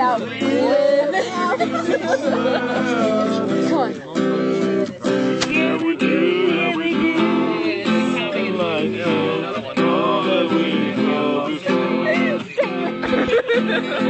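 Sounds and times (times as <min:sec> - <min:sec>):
acoustic guitar strumming: 0:00.0 - 0:14.0
people singing along: 0:00.0 - 0:14.0.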